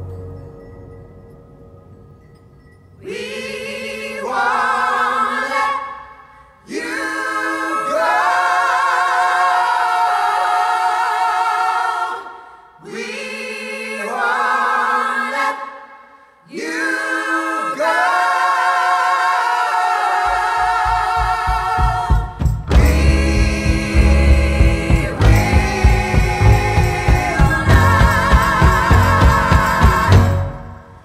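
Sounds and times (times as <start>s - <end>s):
voices singing in harmony: 3.0s - 31.0s.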